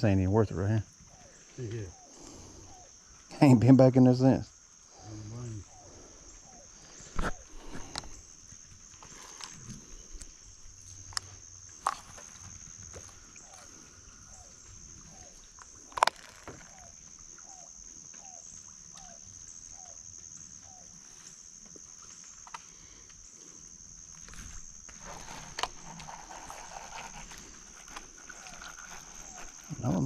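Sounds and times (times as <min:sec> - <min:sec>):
high-pitched insect drone: 0:00.1 - 0:30.0.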